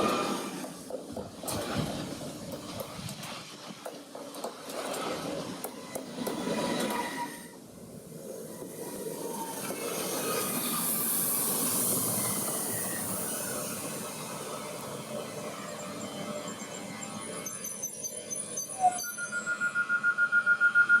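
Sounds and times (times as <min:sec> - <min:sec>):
train passing on rails: 0:00.0 - 0:21.0.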